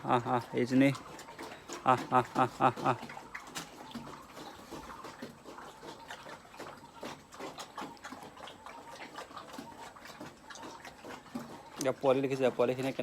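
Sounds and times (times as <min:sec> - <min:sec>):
piglets chewing and smacking: 0:00.0 - 0:13.0.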